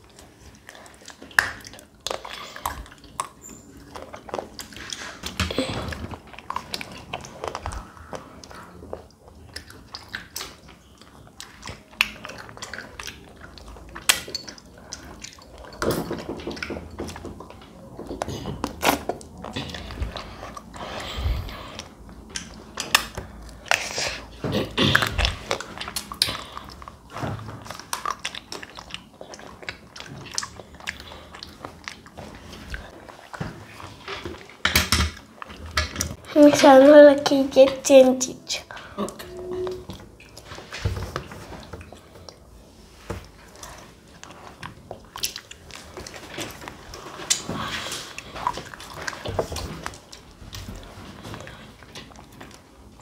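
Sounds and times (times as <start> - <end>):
wet chewing mouth sounds: 0.0 - 15.8, 16.5 - 34.6, 38.6 - 53.0.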